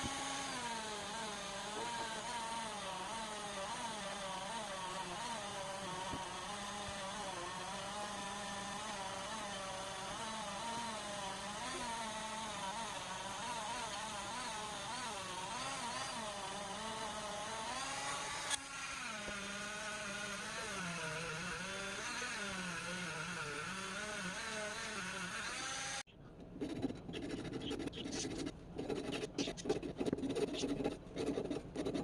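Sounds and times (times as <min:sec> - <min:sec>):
power tool motor running: 0:00.0 - 0:26.1.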